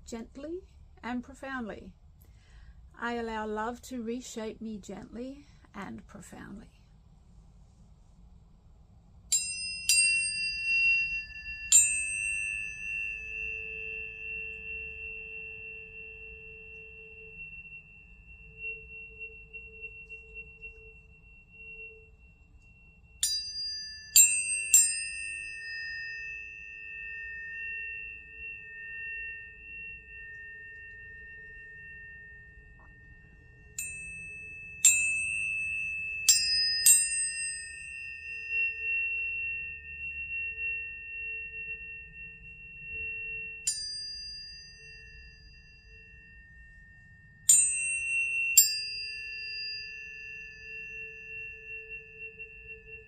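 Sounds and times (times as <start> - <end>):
tuning forks ringing: 9.2 - 53.0.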